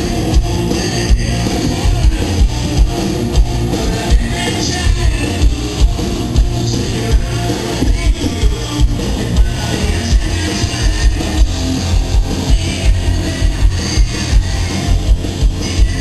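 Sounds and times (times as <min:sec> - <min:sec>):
distorted electric guitar: 0:00.0 - 0:16.0
heavy bass: 0:00.0 - 0:16.0
steady drum beat: 0:00.0 - 0:16.0.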